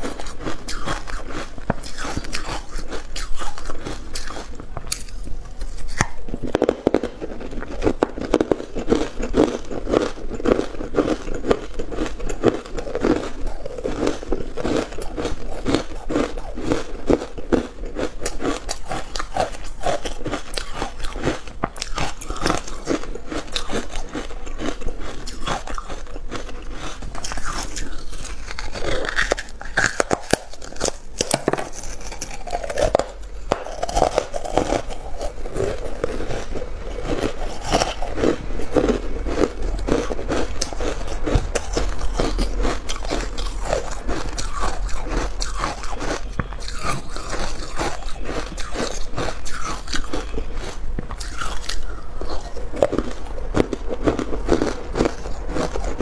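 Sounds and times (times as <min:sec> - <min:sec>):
ice being crunched and chewed: 0:00.0 - 0:56.0.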